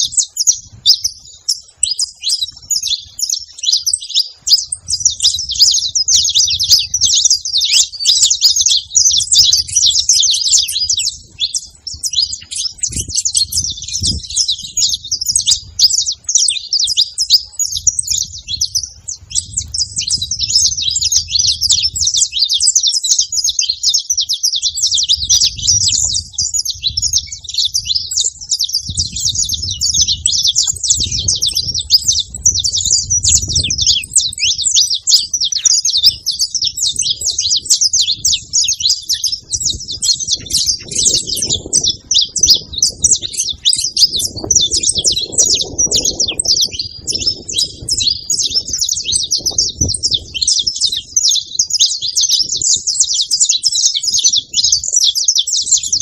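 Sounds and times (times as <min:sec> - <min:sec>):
flock of finches chirping: 0:00.0 - 0:56.0.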